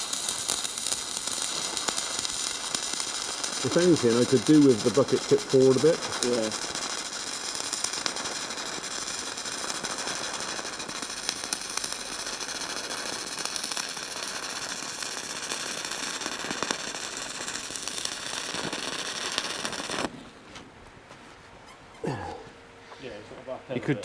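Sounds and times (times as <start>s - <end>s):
arc welding crackle: 0.0s - 20.1s
sharp welding pops: 0.0s - 20.1s.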